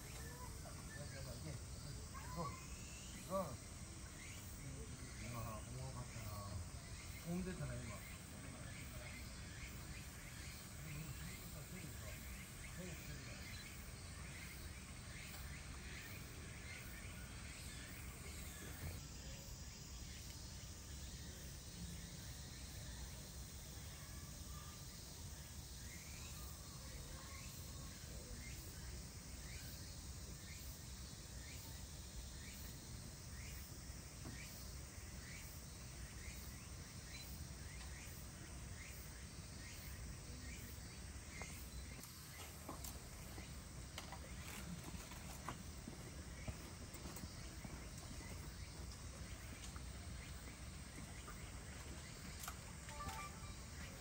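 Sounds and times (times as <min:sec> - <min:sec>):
faint chirps: 0:00.0 - 0:54.0
steady background hiss: 0:00.0 - 0:54.0.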